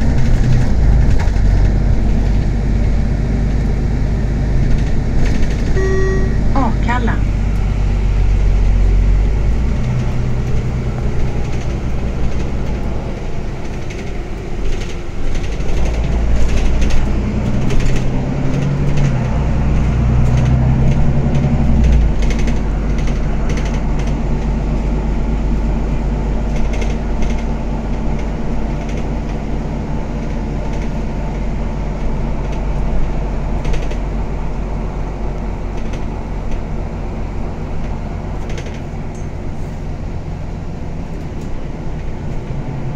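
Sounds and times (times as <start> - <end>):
bus drivetrain hum: 0.0 - 42.9
road noise: 0.0 - 42.9.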